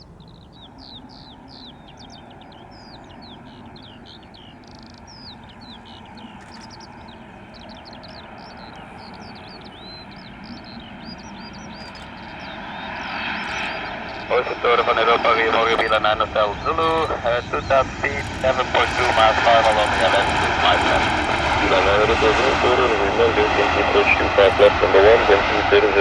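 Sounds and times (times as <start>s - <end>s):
birds chirping and whistling: 0.0s - 22.8s.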